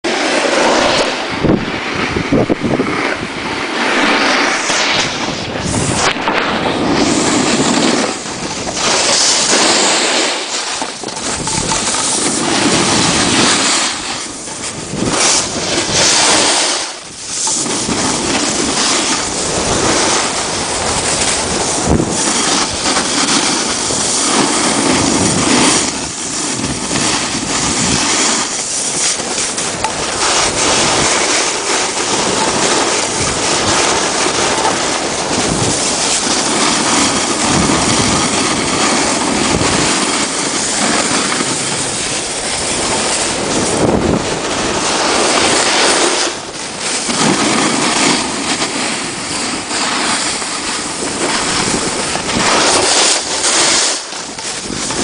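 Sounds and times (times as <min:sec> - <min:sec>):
snowboard scraping over snow: 0:00.0 - 0:55.0
wind rushing over microphone: 0:00.0 - 0:55.0.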